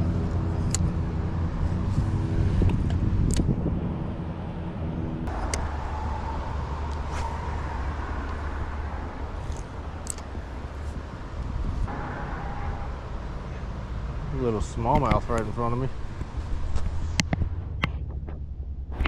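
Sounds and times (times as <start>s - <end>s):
high engine whine: 0.0s - 19.0s
road traffic rumble: 0.0s - 19.0s
vehicle engine hum: 0.0s - 19.0s.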